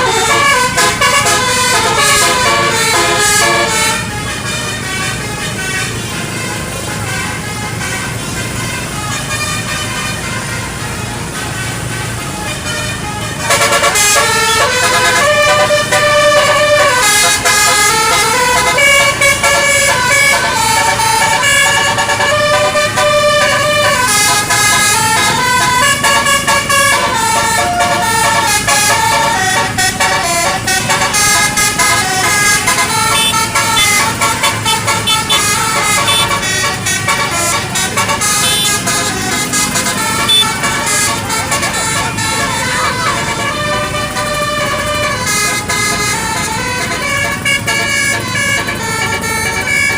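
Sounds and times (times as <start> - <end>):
multi-tone musical bus horn: 0.0 - 49.9.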